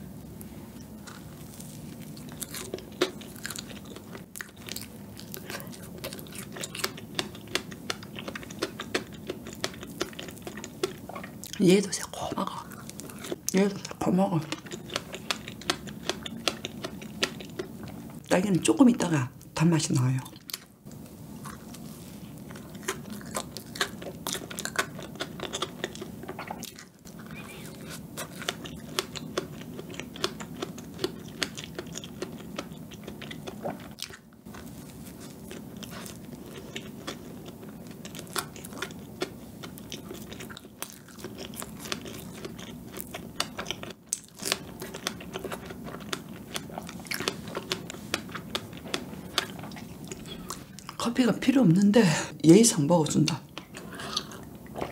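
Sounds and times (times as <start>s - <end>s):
wet chewing with mouth clicks: 0.4s - 18.3s, 20.2s - 51.0s, 53.3s - 54.9s.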